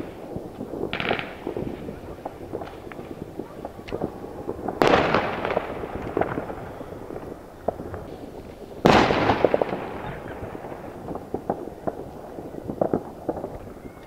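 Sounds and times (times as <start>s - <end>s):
fireworks popping and crackling: 0.0s - 14.0s.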